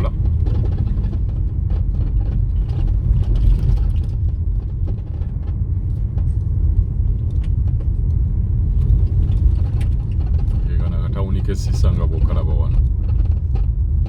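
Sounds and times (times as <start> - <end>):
light clicks and rattles: 0.0 - 14.0
vehicle engine and road noise: 0.0 - 14.0.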